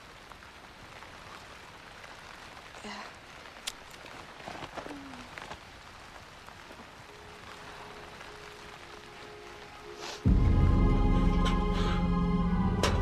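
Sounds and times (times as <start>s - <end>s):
outdoor ambient hiss: 0.0s - 13.0s.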